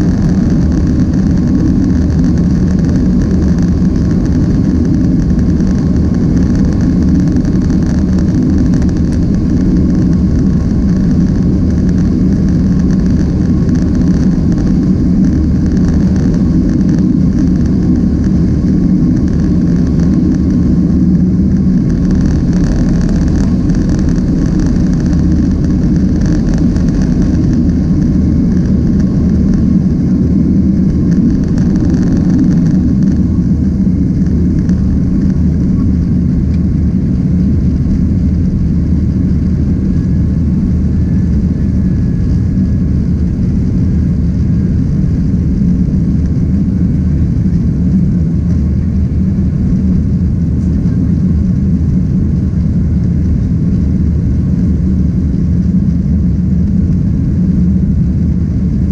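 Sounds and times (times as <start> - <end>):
jet engines rumbling on takeoff: 0.0 - 58.9.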